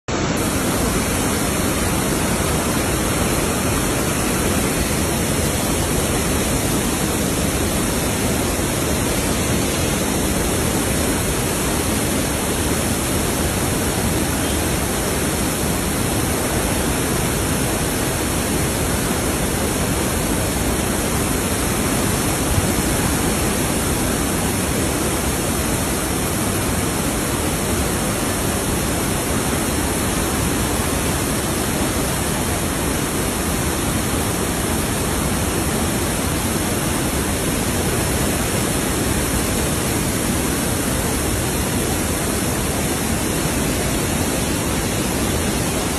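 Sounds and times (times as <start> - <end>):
water rushing through dam spillway: 0.1 - 45.9.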